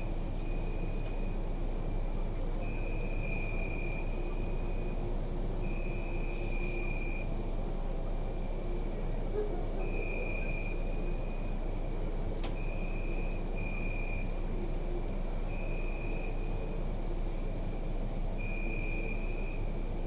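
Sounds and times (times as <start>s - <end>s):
crickets chirping in trills: 0.0s - 20.0s.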